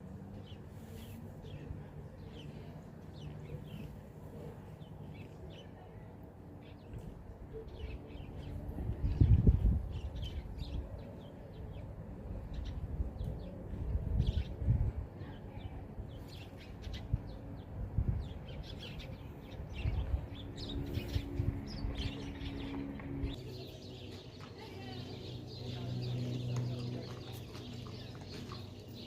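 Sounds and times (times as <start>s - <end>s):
birds chirping: 0.3s - 29.0s.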